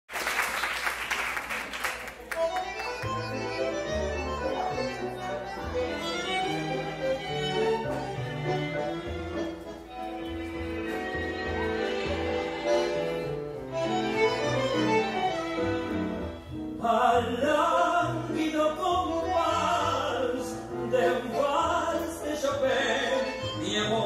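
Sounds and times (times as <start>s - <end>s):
tango ensemble playing waltz: 2.2s - 24.0s.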